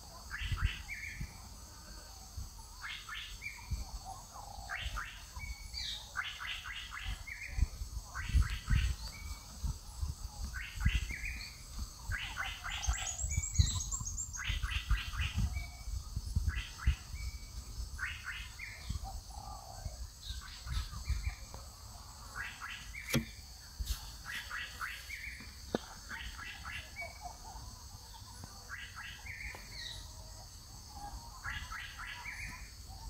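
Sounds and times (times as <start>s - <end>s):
birds chattering: 2.2s - 33.0s.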